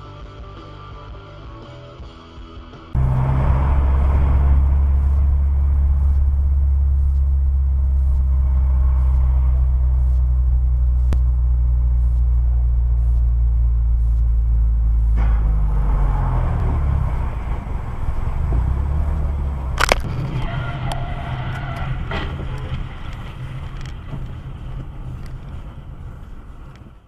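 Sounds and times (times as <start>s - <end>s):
car cabin road rumble: 3.0s - 27.0s.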